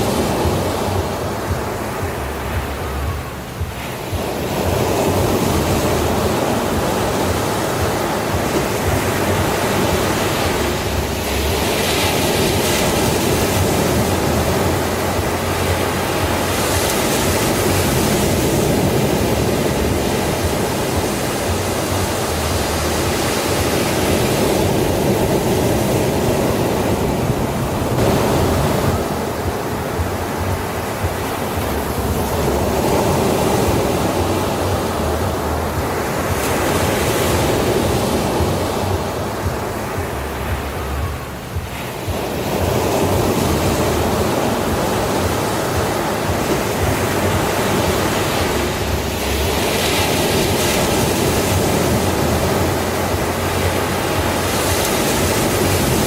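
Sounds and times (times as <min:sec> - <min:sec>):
sea waves breaking on beach: 0:00.0 - 0:56.0
wind rumble on microphone: 0:00.0 - 0:56.0.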